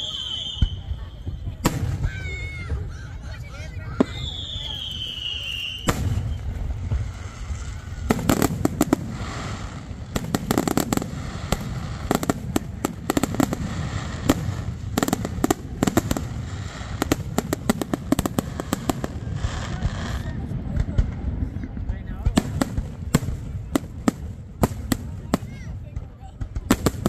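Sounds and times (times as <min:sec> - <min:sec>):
fireworks crackling pops: 0:00.0 - 0:02.7, 0:03.8 - 0:27.0.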